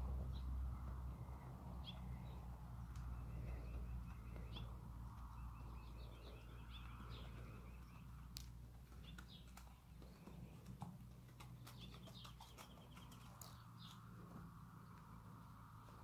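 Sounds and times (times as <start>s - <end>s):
birds chirping: 0.0s - 16.0s
horse hoofbeats on dirt: 0.1s - 14.5s.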